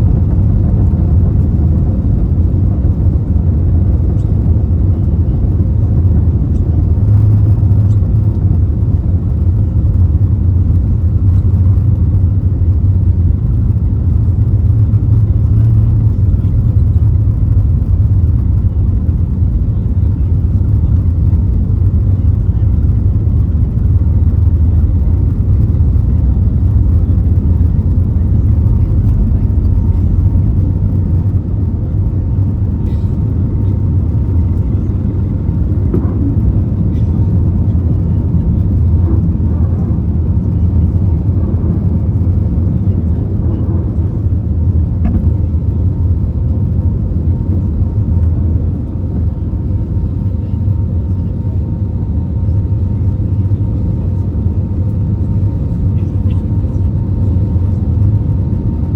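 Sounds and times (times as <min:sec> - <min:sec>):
airflow noise: 0:00.0 - 0:55.4
aircraft engine rumble: 0:00.0 - 0:58.9.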